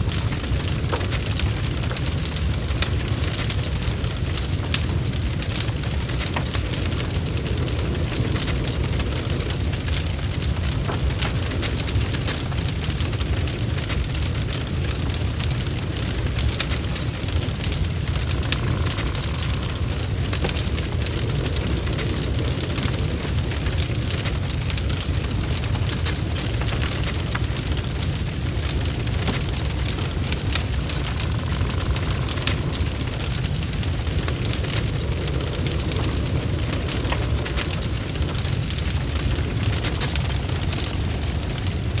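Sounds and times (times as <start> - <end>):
burning wood popping and snapping: 0.0 - 42.0
low rumble of flames: 0.0 - 42.0.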